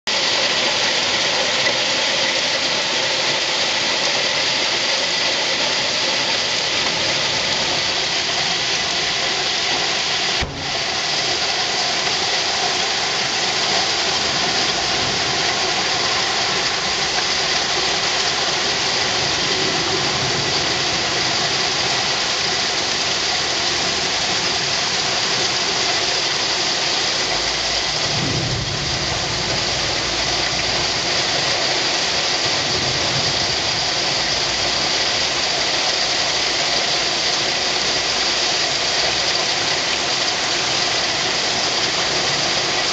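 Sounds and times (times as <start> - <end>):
torrential rain pouring: 0.1 - 42.9.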